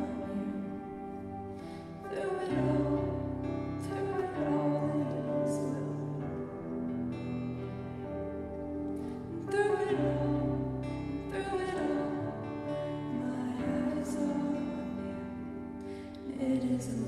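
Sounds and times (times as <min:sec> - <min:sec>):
worship band playing soft chords: 0:00.0 - 0:17.0.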